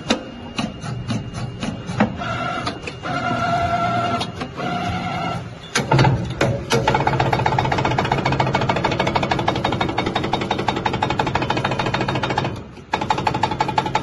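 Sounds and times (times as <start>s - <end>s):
bending machine motor whine: 0.0s - 14.0s.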